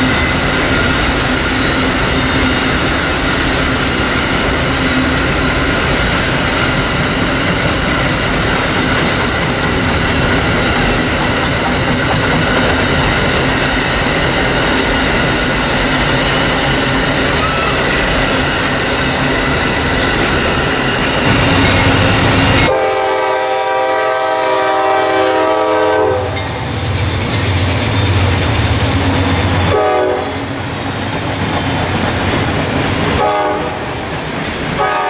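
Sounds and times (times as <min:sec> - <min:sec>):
steel wheels on rail: 0:00.0 - 0:35.0.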